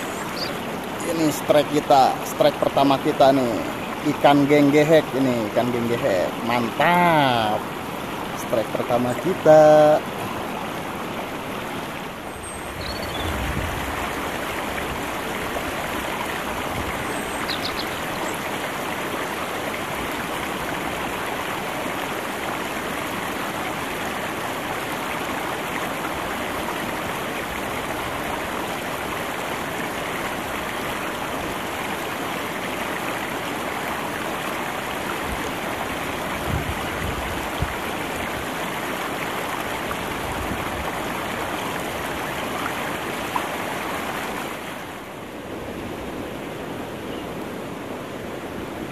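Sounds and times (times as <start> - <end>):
river water flowing over stones: 0.0 - 48.9.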